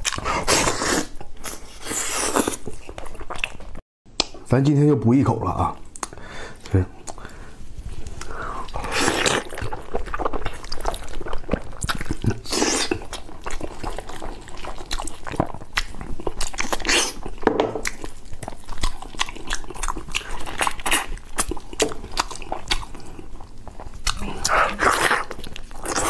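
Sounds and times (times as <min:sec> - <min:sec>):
wet chewing: 0:00.0 - 0:04.4, 0:05.8 - 0:26.0.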